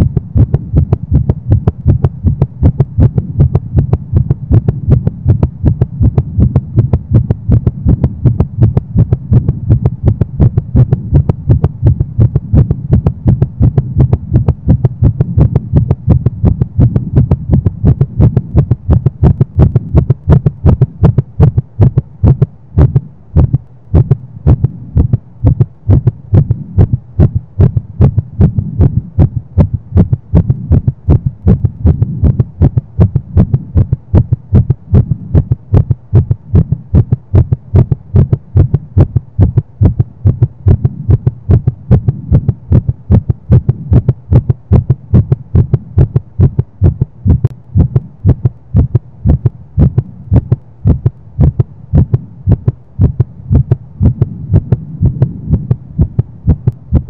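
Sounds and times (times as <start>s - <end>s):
fast heartbeat: 0.0s - 57.0s
low steady hum: 0.0s - 57.0s.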